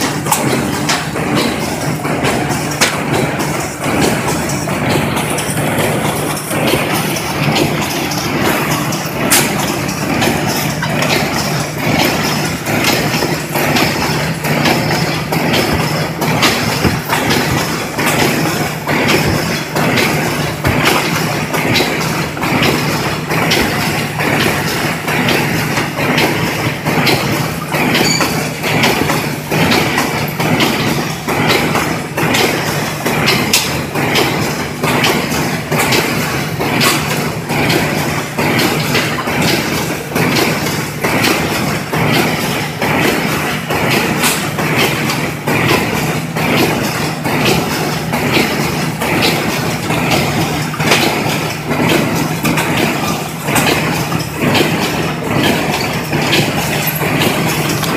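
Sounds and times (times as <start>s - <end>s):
machine motor hum: 0.0s - 57.9s
rapid mechanical clattering: 0.0s - 57.9s.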